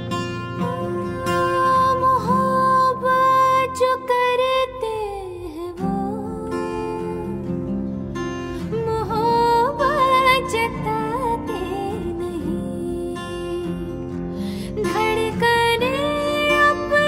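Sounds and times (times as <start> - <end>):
acoustic guitar strumming: 0.0 - 4.9, 5.7 - 17.0
woman singing: 0.2 - 17.0.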